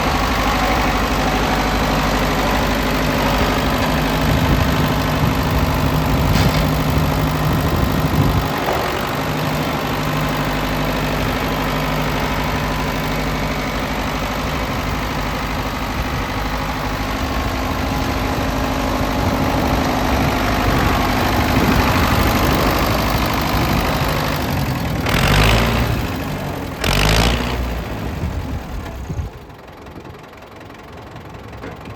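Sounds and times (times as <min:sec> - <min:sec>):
tractor engine idling: 0:00.0 - 0:31.9.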